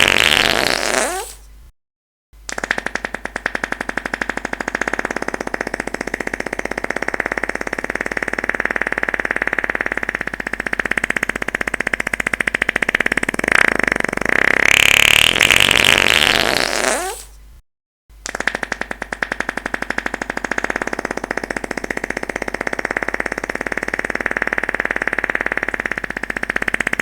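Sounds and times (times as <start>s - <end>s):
fluttering fart sound: 0.0s - 1.4s, 2.5s - 17.3s, 18.3s - 27.0s.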